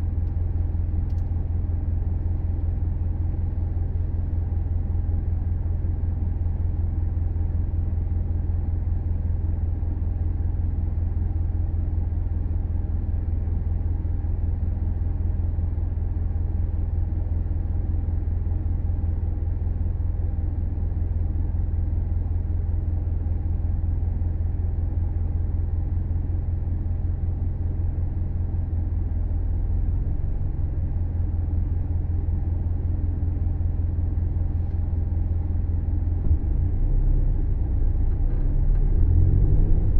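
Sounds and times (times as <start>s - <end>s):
car low rumble while driving: 0.0s - 39.9s.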